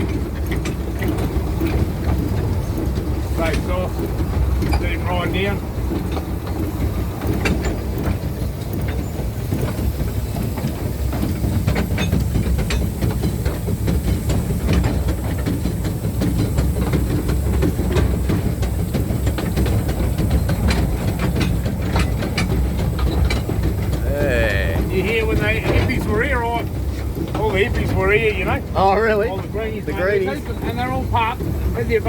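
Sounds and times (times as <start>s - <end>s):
clacks over rail joints: 0.0s - 32.0s
train wheels rumbling on rail: 0.0s - 32.0s.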